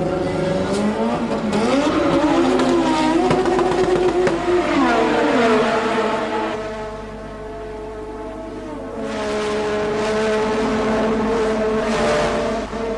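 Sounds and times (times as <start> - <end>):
racing car engines at high revs: 0.0 - 12.9.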